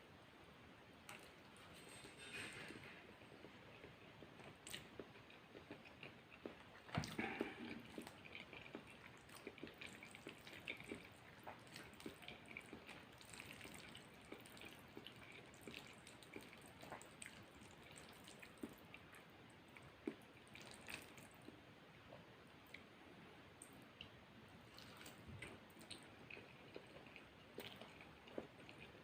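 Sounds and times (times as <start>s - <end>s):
wet chewing and mouth clicks: 2.8s - 21.6s, 23.6s - 29.0s.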